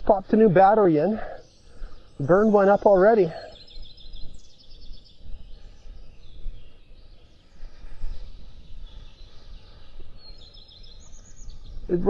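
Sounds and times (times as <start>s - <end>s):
birds singing faintly: 0.0s - 12.0s
wind gusting across microphone: 0.0s - 12.0s.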